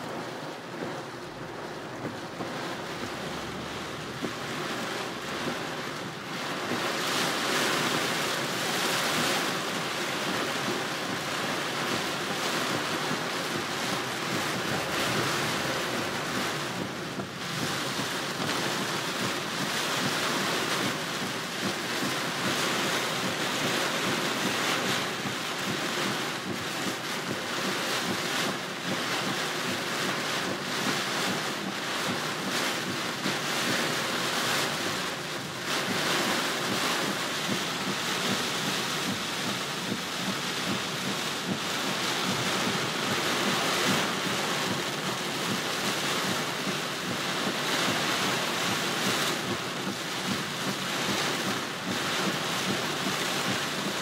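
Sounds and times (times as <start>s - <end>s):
heavy rain on car windshield: 0.0s - 54.0s.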